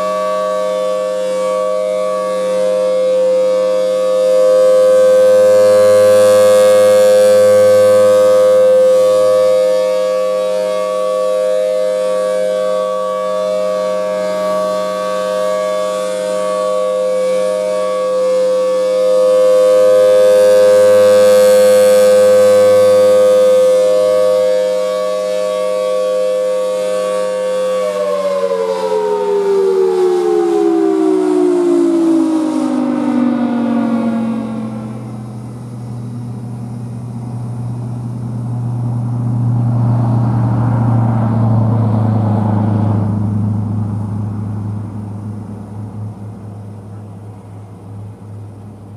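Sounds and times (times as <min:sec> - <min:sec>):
tornado siren steady tone: 0:00.0 - 0:48.9.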